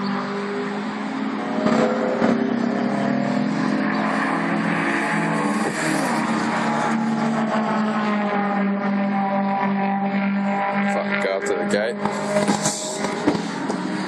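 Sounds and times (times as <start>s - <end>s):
race car engines running: 0.0s - 14.0s.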